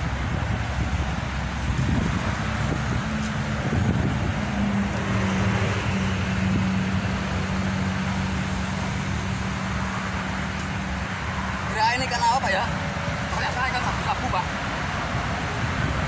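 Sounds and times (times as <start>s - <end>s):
highway traffic noise: 0.0s - 16.0s.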